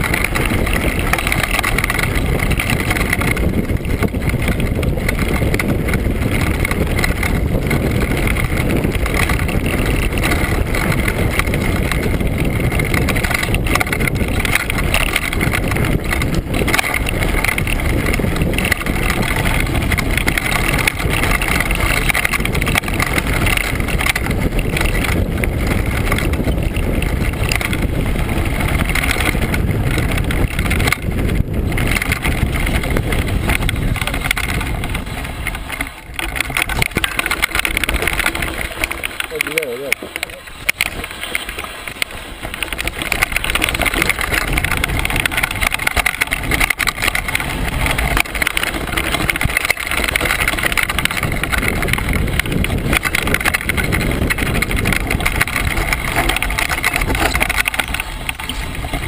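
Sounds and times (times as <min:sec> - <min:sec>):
bike rattling over stones: 0:00.0 - 0:59.0.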